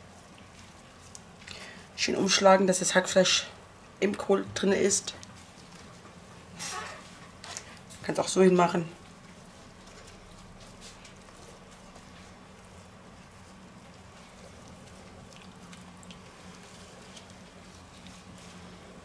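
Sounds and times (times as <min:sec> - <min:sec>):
wet leaves crinkling: 0:00.0 - 0:02.4, 0:04.8 - 0:19.0.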